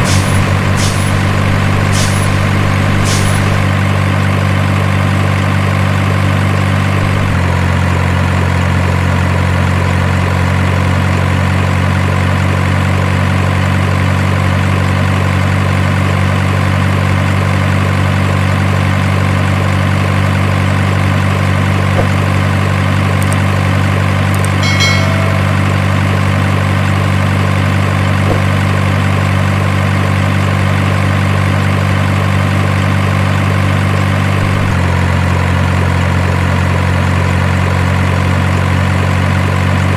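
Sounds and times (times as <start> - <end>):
truck diesel engine idling: 0.0 - 24.4, 25.6 - 39.9.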